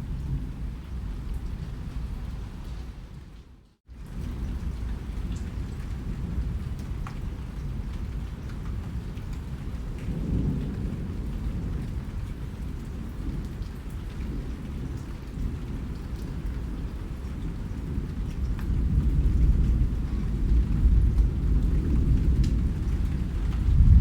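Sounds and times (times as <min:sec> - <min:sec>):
rain rumbling: 0:00.0 - 0:24.0
faint raindrop ticks: 0:03.3 - 0:24.0.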